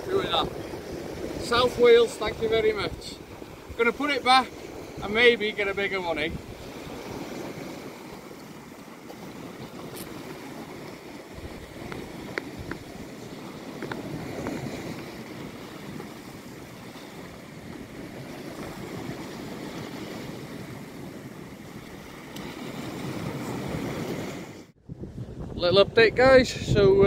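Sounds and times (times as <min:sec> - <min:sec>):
waves breaking on rocks: 0:00.0 - 0:24.7
wind on microphone: 0:00.0 - 0:27.0.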